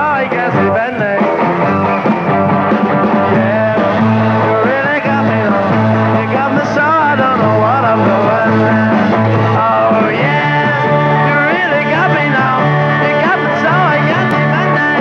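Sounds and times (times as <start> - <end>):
rock band playing: 0.0 - 15.0
voices singing: 2.9 - 15.0.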